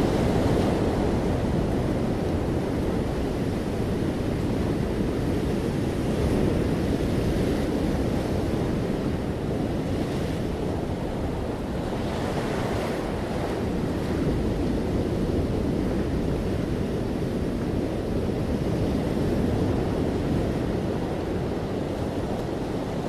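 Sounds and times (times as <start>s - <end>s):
sea waves on a beach: 0.0s - 23.0s.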